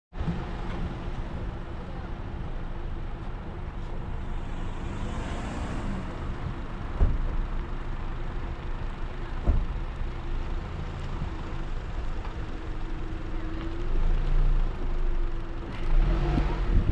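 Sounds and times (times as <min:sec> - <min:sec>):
car engine and tyre hum: 0:00.1 - 0:16.9.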